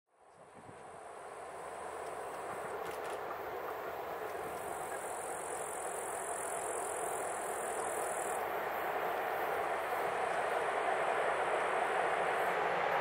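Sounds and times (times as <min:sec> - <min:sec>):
train rumble: 0:00.3 - 0:13.0
high steady hiss: 0:00.4 - 0:13.0.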